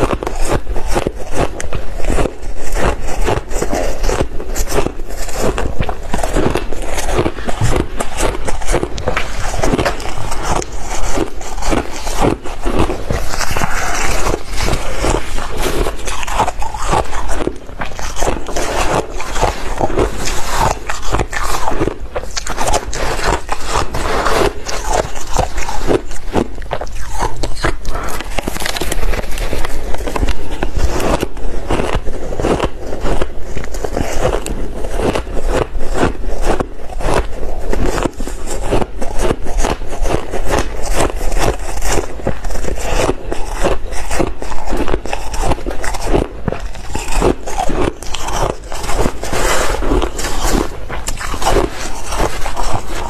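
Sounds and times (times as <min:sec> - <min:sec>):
crushed ice being chewed: 0:00.0 - 0:53.0
metal spoon scraping ice: 0:00.0 - 0:53.0.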